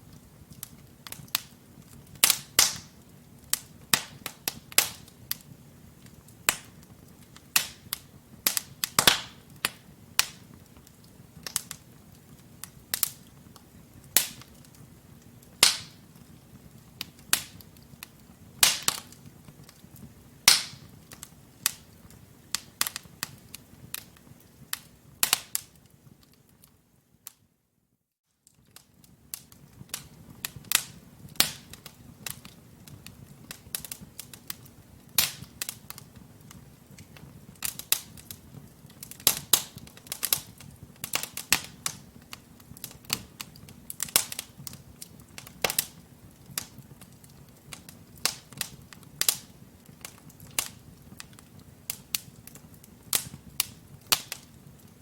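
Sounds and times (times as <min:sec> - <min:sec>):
logs crackling and popping: 0:00.0 - 0:27.4, 0:28.4 - 0:55.0.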